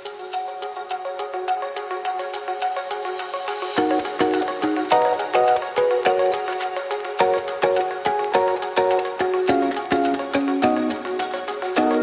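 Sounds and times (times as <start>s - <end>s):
light melody over ticking beat: 0.0s - 12.0s.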